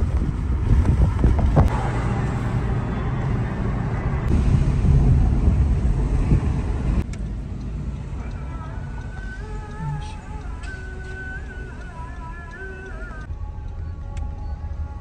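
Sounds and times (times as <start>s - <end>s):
car tyres and engine rumble: 0.0s - 15.0s.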